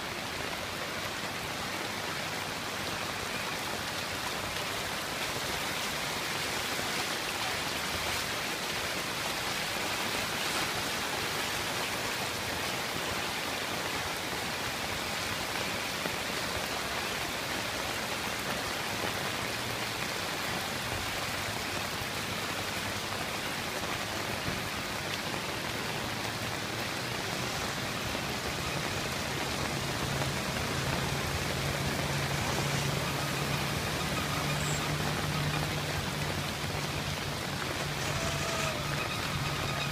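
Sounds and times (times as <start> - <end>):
heavy rain hissing: 0.0 - 39.9
running water: 0.0 - 39.9.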